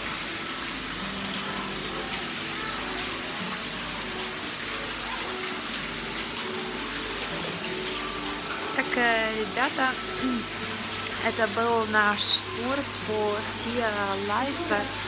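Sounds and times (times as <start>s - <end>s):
water splashing into pool: 0.0s - 15.0s.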